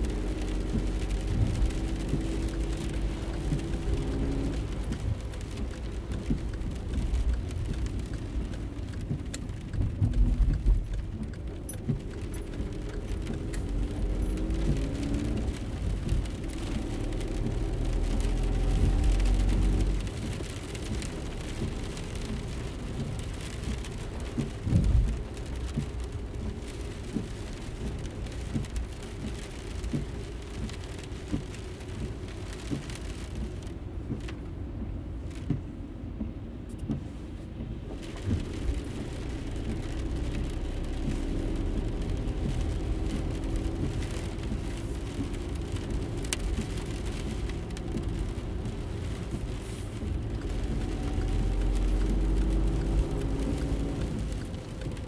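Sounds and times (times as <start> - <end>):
small rattles and clicks: 0.0 - 35.8, 36.7 - 55.0
car engine and road rumble: 0.0 - 55.0.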